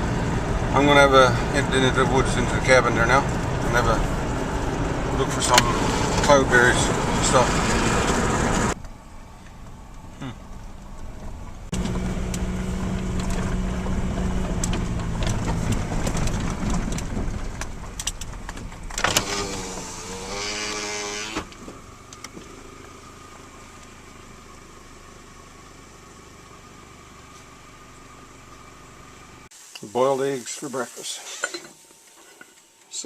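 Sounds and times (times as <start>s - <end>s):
vehicle engine running: 0.0s - 29.5s.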